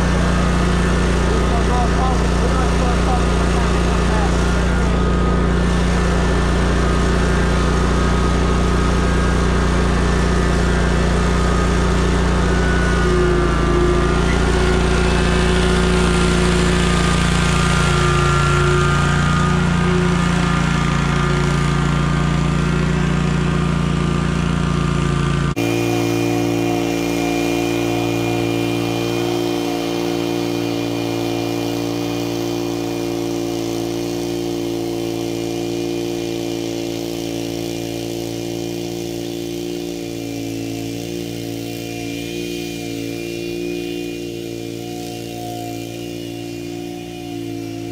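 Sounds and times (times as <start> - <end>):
riding mower engine: 0.0 - 47.9
steady engine drone: 0.0 - 47.9.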